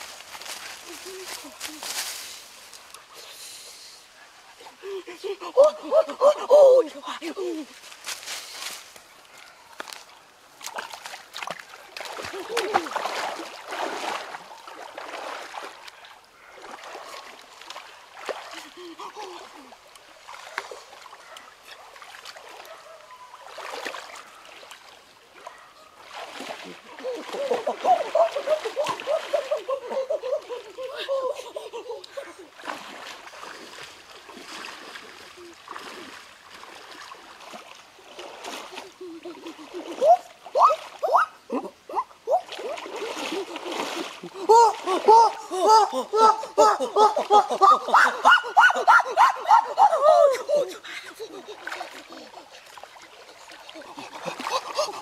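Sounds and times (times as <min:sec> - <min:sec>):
people wading through stream: 0:00.0 - 0:55.0.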